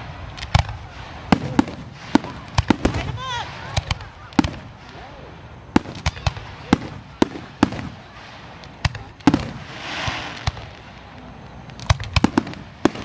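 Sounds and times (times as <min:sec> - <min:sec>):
fireworks bangs: 0:00.0 - 0:13.0
hissing crackle: 0:00.0 - 0:13.0.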